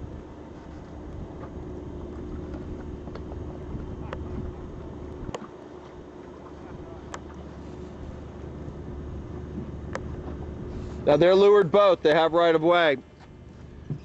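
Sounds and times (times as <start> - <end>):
wind rumbling on microphone: 0.0 - 11.3
faint steady hum: 0.0 - 14.0.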